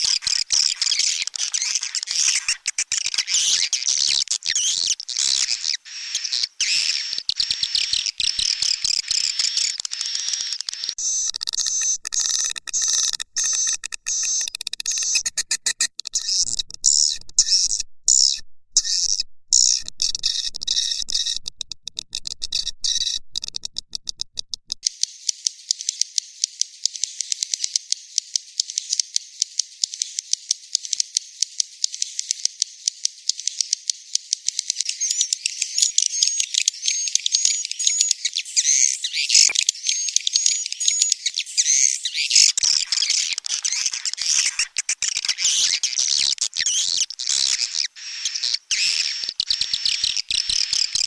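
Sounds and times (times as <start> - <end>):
bird call rattling clicks and chirps: 0.0 - 51.0.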